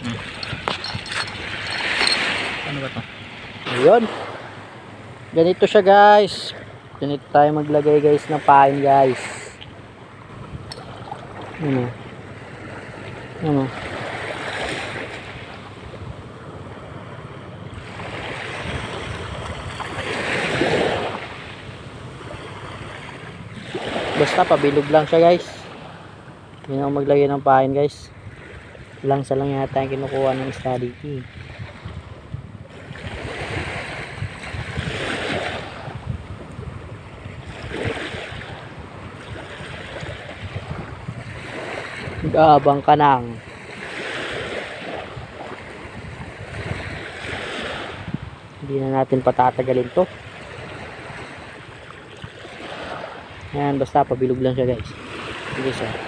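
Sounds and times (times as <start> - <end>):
sea surf washing on shore: 0.0 - 56.0
wind on microphone: 0.0 - 56.0.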